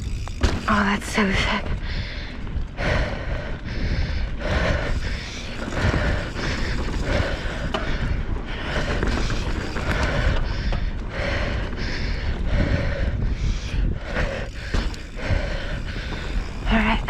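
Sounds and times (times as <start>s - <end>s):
mountain bike tyre noise: 0.0s - 17.0s.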